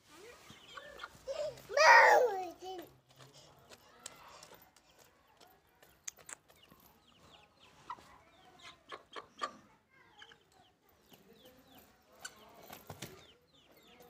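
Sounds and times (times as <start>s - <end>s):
chickens clucking faintly: 0.0s - 2.1s, 4.2s - 14.0s.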